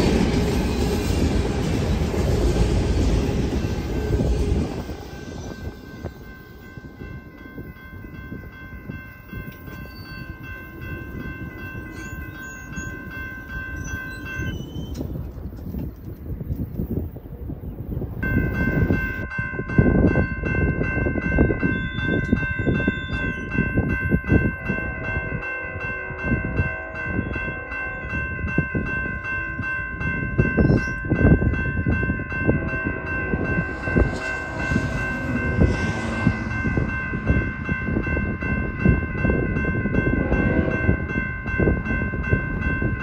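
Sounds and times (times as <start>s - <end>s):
crossing warning bell clanging: 0.0s - 16.4s, 18.2s - 43.0s
wind buffeting microphone: 0.0s - 43.0s.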